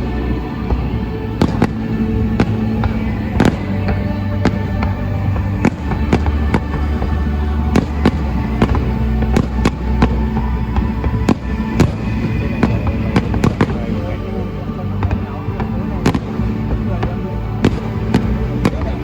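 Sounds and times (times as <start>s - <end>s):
fireworks bangs: 0.0s - 19.0s
low rumble: 0.0s - 19.0s.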